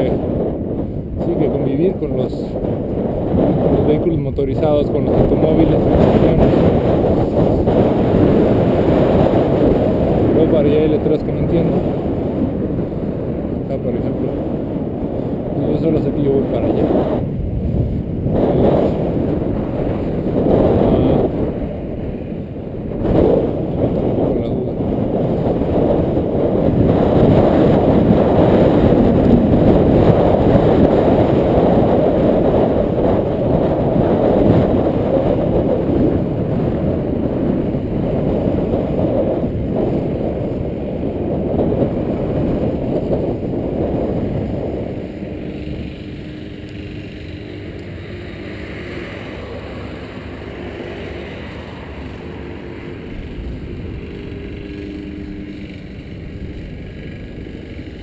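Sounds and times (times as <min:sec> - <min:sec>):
faint steady hum: 0:00.0 - 0:58.0
wind buffeting microphone: 0:00.0 - 0:58.0.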